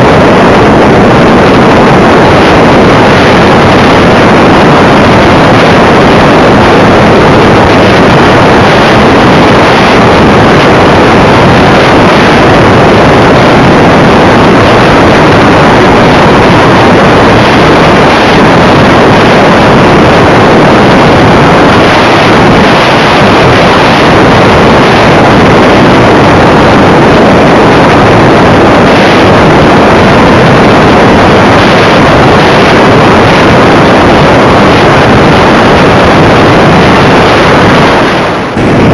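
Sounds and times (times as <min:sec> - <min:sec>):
rush of airflow: 0:00.0 - 0:38.9.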